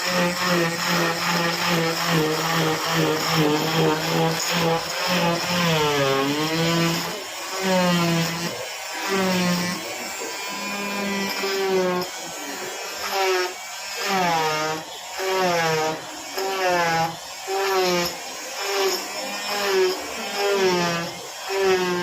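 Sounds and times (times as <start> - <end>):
cast saw whining: 0.0 - 22.0.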